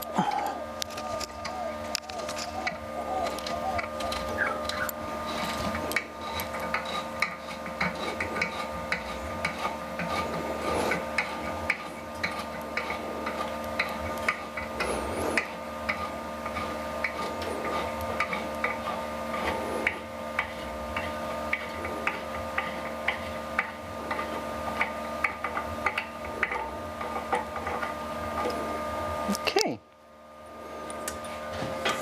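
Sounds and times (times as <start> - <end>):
hand tools clicking and tapping: 0.0 - 28.6
steady electrical hum: 0.0 - 32.0.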